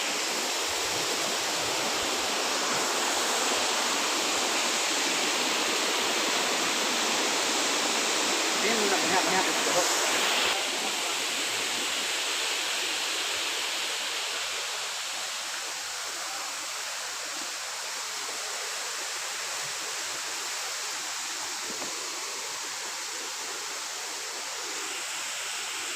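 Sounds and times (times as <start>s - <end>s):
waterfall and stream rushing: 0.0s - 25.9s.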